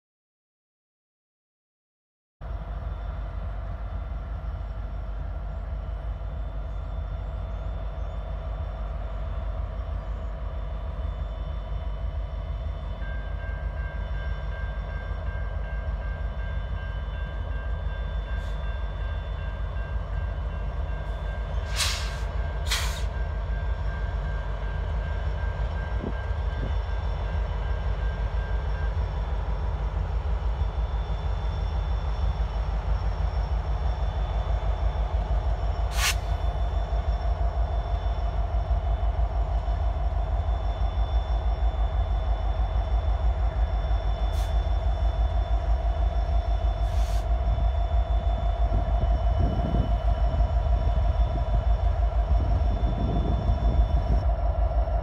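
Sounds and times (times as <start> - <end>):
diesel locomotive engines rumbling: 2.4 - 55.0.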